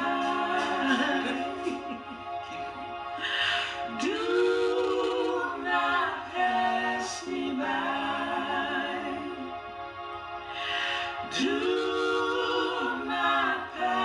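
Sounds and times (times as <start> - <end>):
voices singing a cappella hymn: 0.0 - 14.0.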